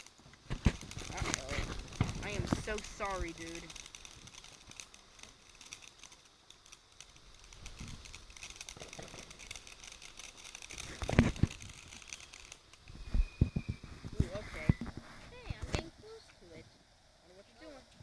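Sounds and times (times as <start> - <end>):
firework crackling: 0.0 - 18.0.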